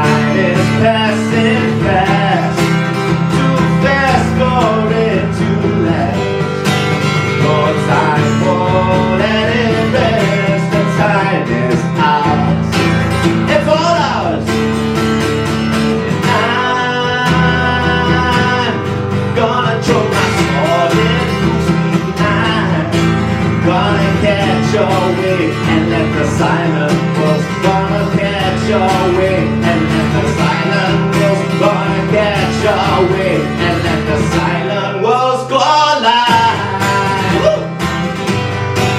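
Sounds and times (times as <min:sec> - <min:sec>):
low guitar chords: 0:00.0 - 0:35.1.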